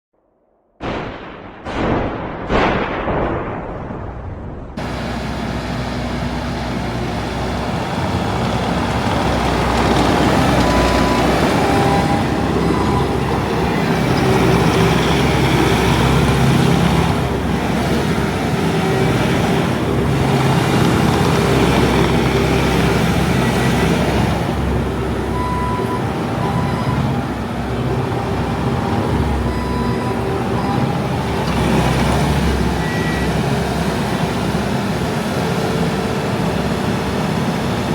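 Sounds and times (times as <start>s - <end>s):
diesel engine running: 4.8s - 37.9s.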